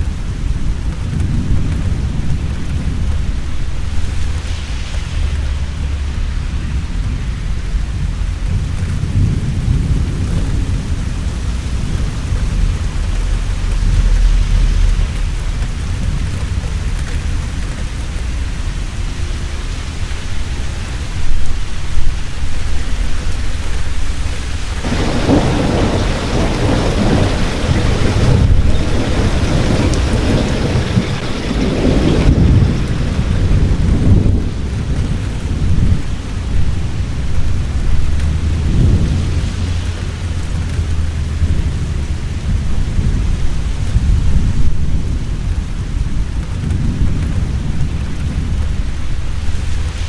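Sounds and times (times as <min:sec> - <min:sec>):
heavy rain falling: 0:00.0 - 0:50.0
rolling thunder: 0:00.0 - 0:50.0.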